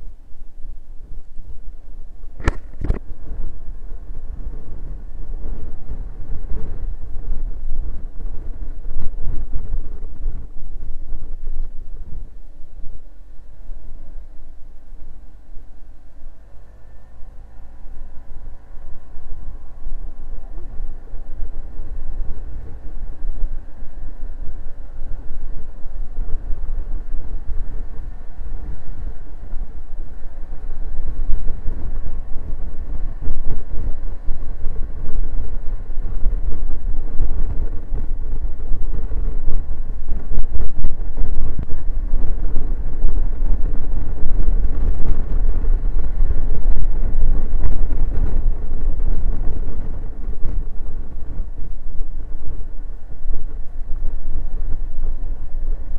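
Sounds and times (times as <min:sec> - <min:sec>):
wind and road noise: 0:00.0 - 0:55.9
scooter engine running: 0:02.2 - 0:55.9.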